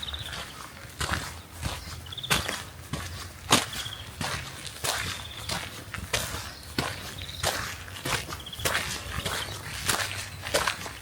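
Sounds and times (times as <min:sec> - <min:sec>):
footsteps outdoors: 0:00.0 - 0:11.0.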